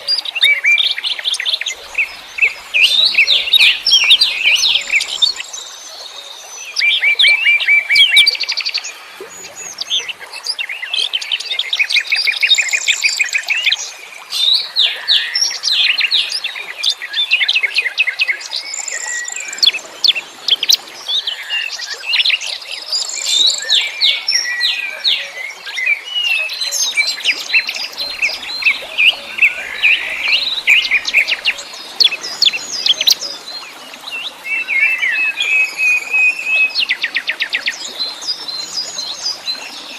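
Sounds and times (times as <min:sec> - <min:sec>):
songbirds chirping: 0:00.0 - 0:15.0, 0:18.3 - 0:39.9.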